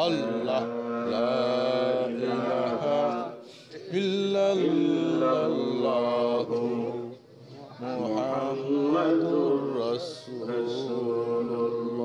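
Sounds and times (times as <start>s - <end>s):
man chanting: 0.0s - 7.2s, 7.8s - 12.0s.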